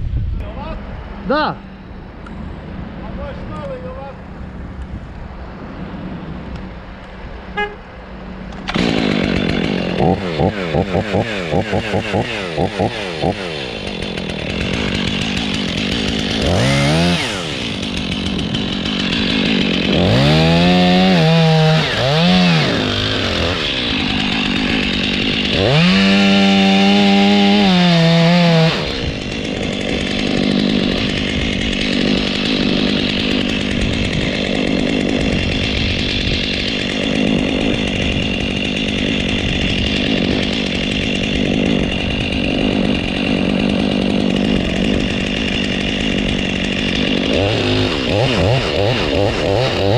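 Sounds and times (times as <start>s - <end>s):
chainsaw revving: 8.6s - 49.9s.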